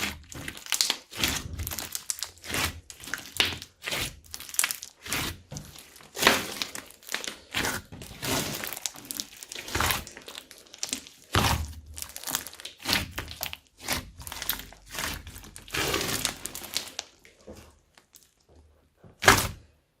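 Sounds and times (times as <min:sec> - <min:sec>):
slime squishing: 0:00.0 - 0:19.8.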